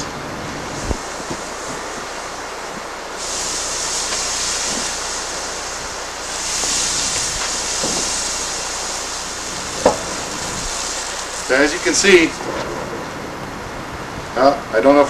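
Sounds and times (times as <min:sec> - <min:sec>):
coolant hissing on hot metal: 0:00.0 - 0:15.0.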